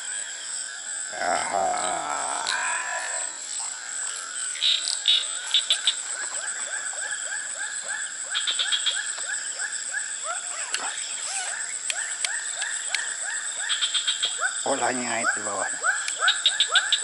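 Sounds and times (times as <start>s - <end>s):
frogs croaking: 0.0s - 17.0s.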